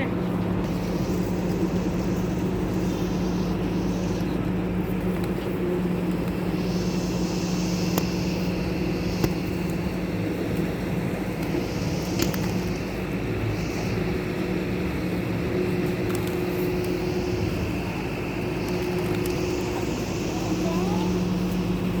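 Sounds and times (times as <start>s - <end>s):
steady motor drone: 0.0s - 22.0s
sharp ticks: 0.6s - 22.0s.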